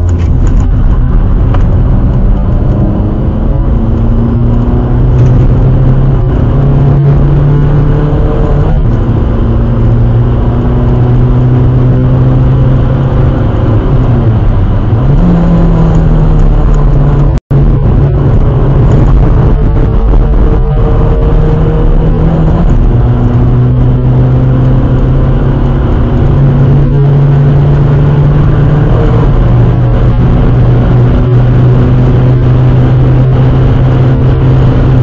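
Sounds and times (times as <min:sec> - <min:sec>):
diesel car engine revving: 0:00.0 - 0:35.0
road and wind noise: 0:00.0 - 0:35.0.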